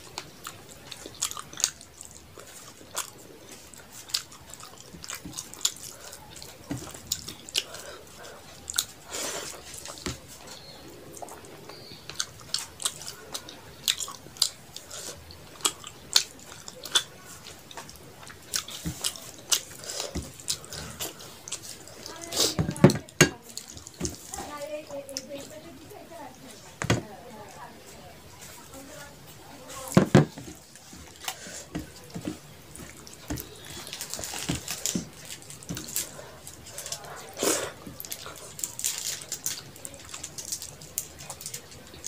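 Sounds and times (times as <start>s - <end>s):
person chewing food: 0.0s - 25.6s, 28.2s - 42.0s.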